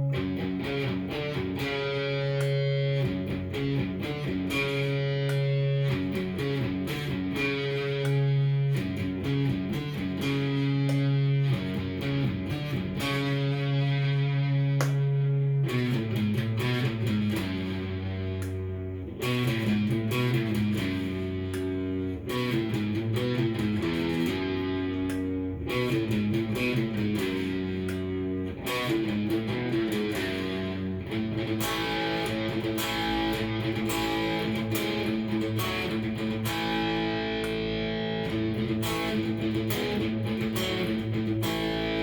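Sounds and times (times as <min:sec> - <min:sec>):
electric guitar strumming chords: 0:00.0 - 0:42.0.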